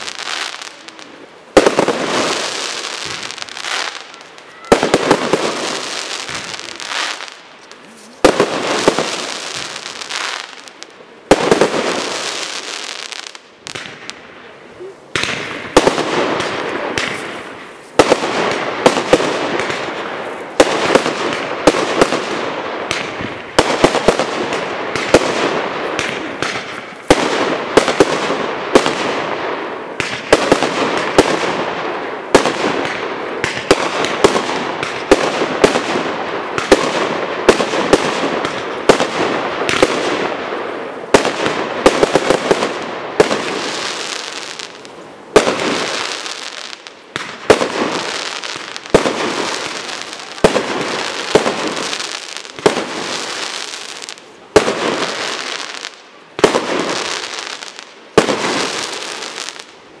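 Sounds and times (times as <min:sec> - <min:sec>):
fireworks bursting with bangs: 0:00.0 - 1:00.0.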